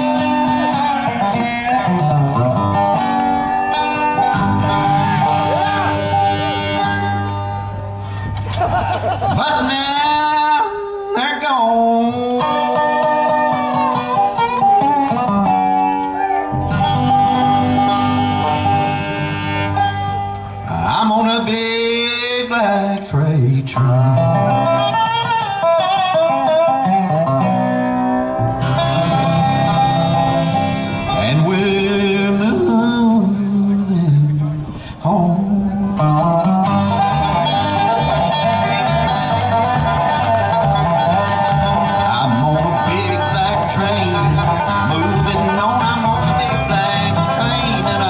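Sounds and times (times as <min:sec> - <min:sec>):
resonator guitar sliding notes: 0:00.0 - 0:08.7, 0:12.1 - 0:21.0, 0:23.8 - 0:34.7, 0:35.5 - 0:48.0
upright bass low notes: 0:00.0 - 0:10.8, 0:11.6 - 0:21.8, 0:26.9 - 0:48.0
strummed acoustic guitar: 0:00.0 - 0:48.0.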